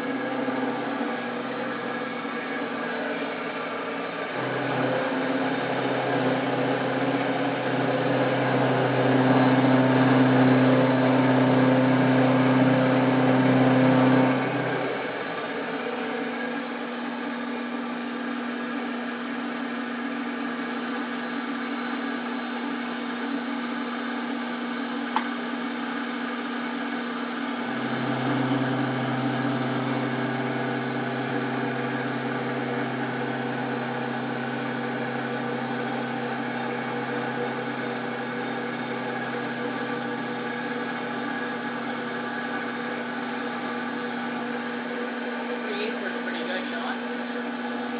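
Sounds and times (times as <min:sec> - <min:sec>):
milling machine humming: 0:00.0 - 0:47.9.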